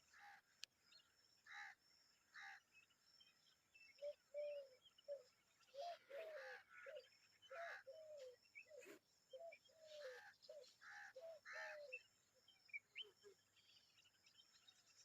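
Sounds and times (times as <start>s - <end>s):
faint repeated bird calls: 0.0s - 15.0s.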